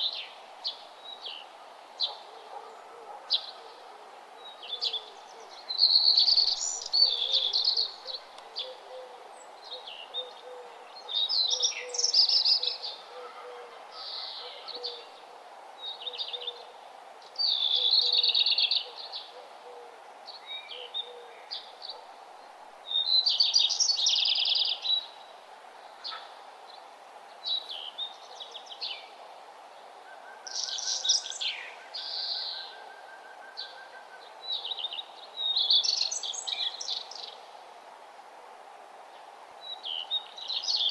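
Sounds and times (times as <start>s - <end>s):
songbirds singing: 0.0s - 37.6s, 39.1s - 40.9s
low background noise: 0.0s - 40.9s.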